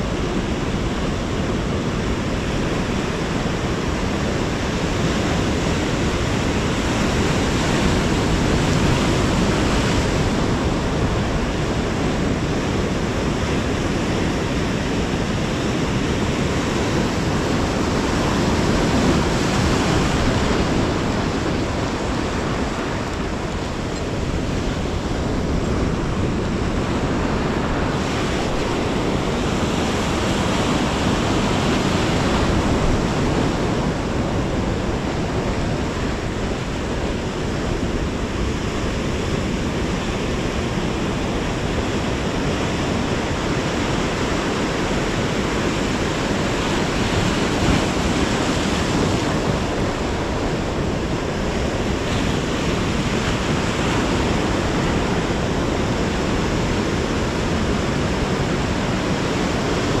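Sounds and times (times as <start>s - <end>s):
breaking surf: 0.0s - 60.0s
wind buffeting microphone: 0.0s - 60.0s.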